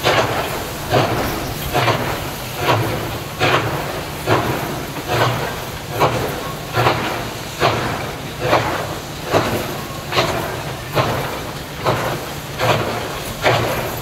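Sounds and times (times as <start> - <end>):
steam hiss: 0.0 - 14.0
steam locomotive exhaust beats: 0.0 - 14.0.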